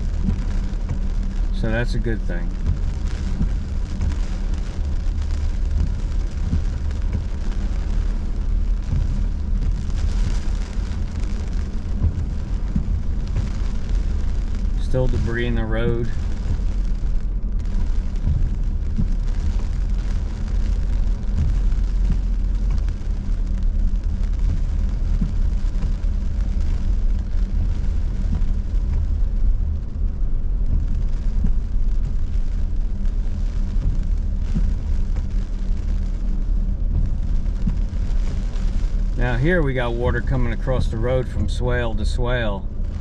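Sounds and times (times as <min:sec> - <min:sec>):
car driving low rumble: 0:00.0 - 0:43.0
rain hitting car: 0:00.0 - 0:43.0.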